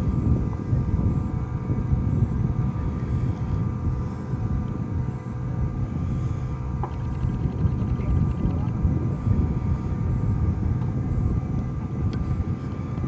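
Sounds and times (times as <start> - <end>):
low uneven rumble: 0.0 - 13.0
motor humming: 0.0 - 13.0.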